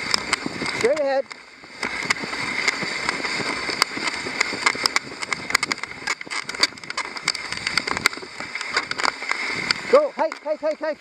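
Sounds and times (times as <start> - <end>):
irregular clicks and knocks: 0.0 - 10.8
sled hissing over snow: 0.0 - 11.0.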